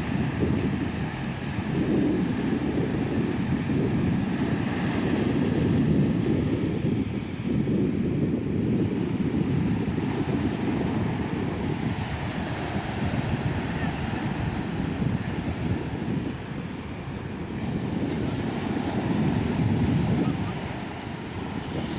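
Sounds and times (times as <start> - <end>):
ocean surf washing onto beach: 0.0 - 21.9
wind rumbling on microphone: 0.0 - 21.9.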